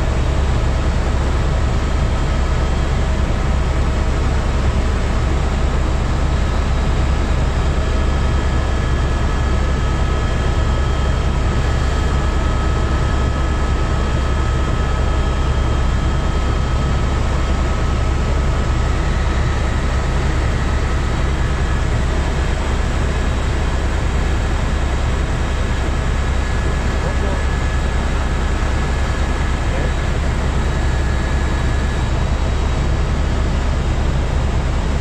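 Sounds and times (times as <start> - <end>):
helicopter cabin rumble: 0.0 - 35.0.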